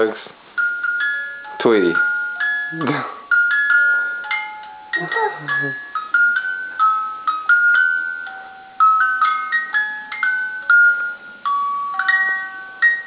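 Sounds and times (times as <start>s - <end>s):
electronic chime melody from toy: 0.6s - 13.0s.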